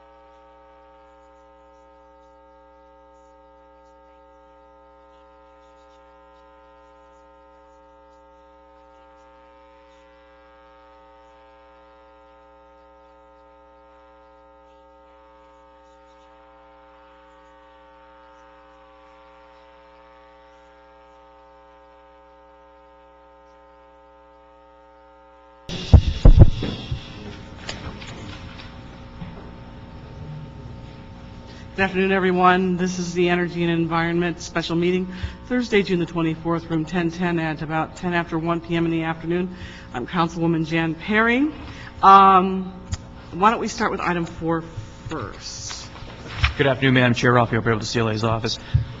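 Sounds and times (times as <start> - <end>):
faint mains hum: 0.0 - 49.0.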